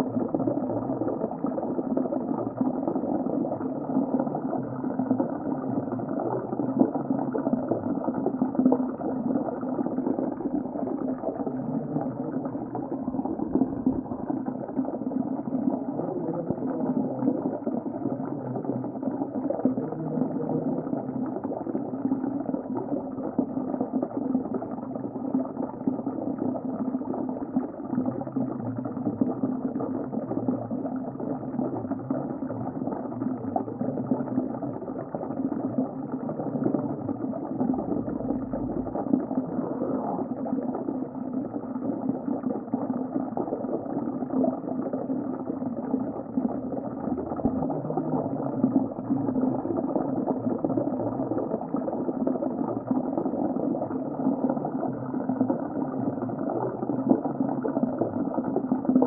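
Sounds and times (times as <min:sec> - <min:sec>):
muffled underwater water rush: 0:00.0 - 0:59.0
water bubbling and gurgling: 0:00.0 - 0:59.0.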